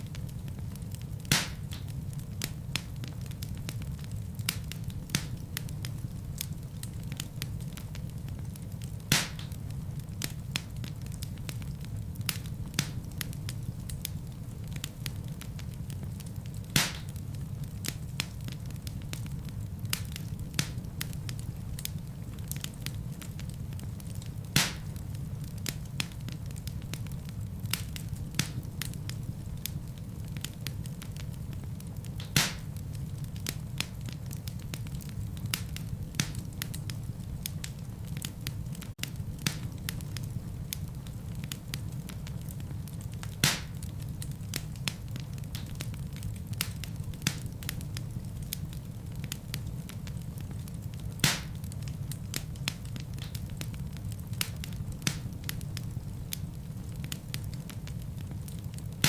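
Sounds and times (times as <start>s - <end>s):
loud fire pops: 0.0s - 59.0s
low rumble of flames: 0.0s - 59.0s
wood fire crackling: 0.0s - 59.0s.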